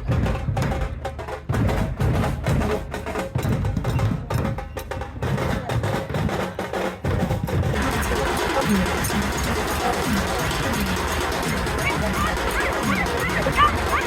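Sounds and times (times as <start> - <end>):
drums playing quick beat: 0.0 - 14.0.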